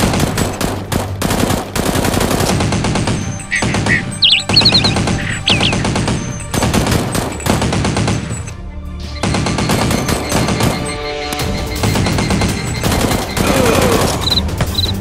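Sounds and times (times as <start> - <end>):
rapid automatic gunfire effects: 0.0 - 8.5, 9.2 - 14.9
background music: 0.0 - 15.0.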